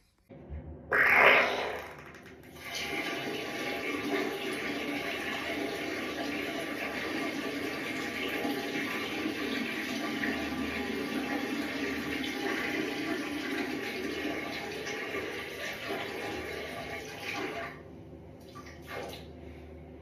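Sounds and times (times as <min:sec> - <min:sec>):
water running: 0:00.9 - 0:17.8.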